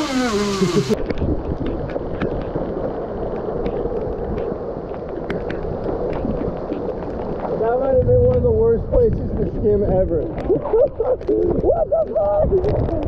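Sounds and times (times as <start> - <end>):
wind blowing across microphone: 0.8 - 13.0.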